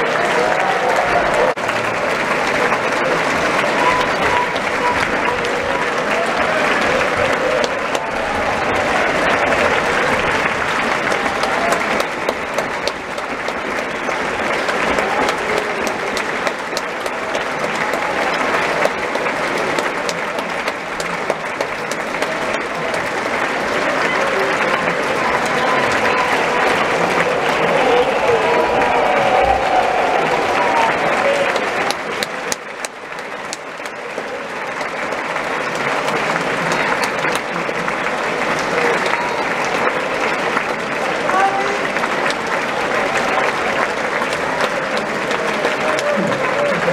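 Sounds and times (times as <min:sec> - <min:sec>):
audience applauding: 0:00.0 - 0:46.9
close hand claps: 0:00.0 - 0:46.9.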